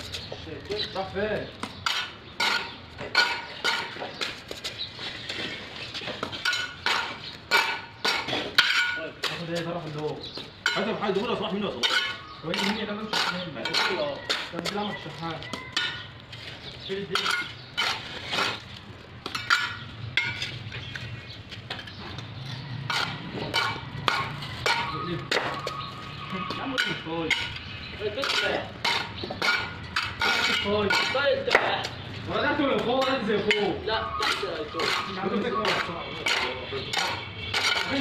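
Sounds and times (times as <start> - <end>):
trowel scraping and tapping bricks: 1.6 - 25.8, 26.4 - 32.0, 32.6 - 38.0.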